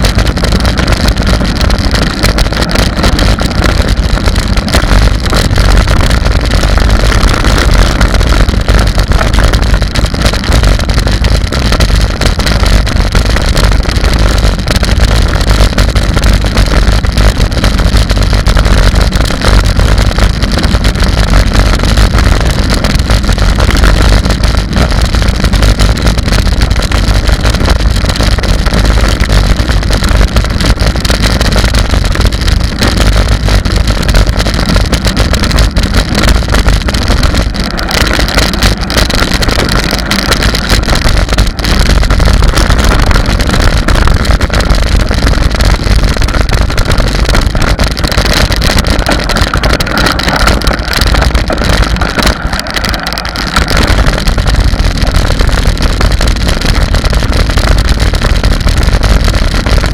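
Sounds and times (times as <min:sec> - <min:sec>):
bike tyres rattling on gravel: 0:00.0 - 0:59.9
wind buffeting microphone: 0:00.0 - 0:59.9.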